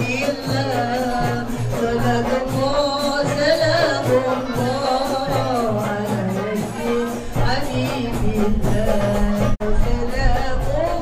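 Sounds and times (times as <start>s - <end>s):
person singing over a beat: 0.0s - 11.0s.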